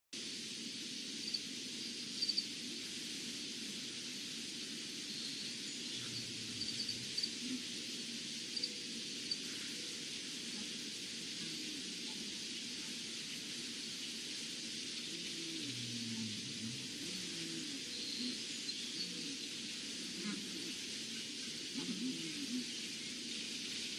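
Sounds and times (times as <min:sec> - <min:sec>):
insects droning: 0:00.2 - 0:23.9.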